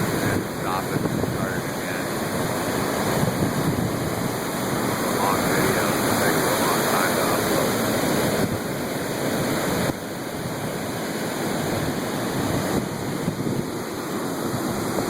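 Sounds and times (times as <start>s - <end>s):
heavy surf breaking on beach: 0.0s - 15.0s.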